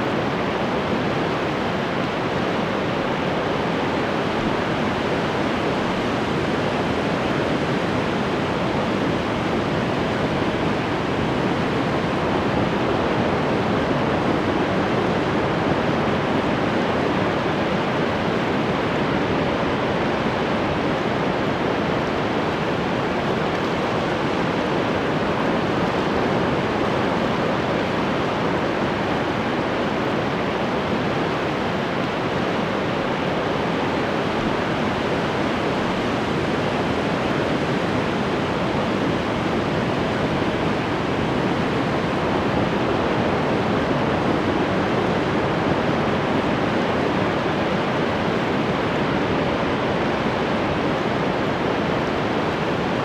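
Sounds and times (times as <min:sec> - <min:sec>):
ocean waves washing: 0:00.0 - 0:53.0.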